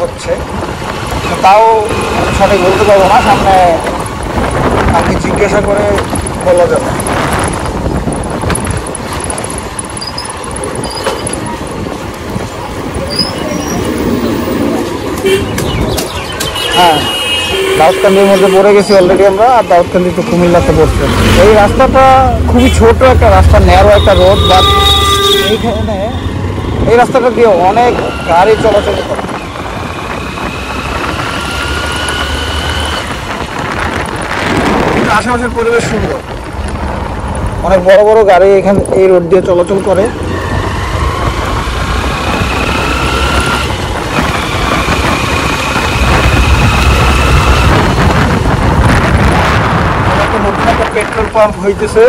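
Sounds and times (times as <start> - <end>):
motorcycle engine: 0.0 - 38.1, 38.9 - 51.3
road noise: 0.0 - 52.0
wind noise: 0.0 - 52.0.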